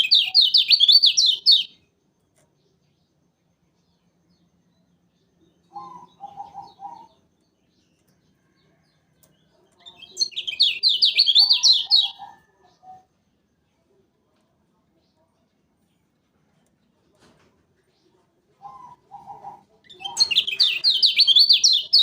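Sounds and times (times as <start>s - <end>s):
songbird singing: 0.0s - 17.1s, 17.7s - 22.0s.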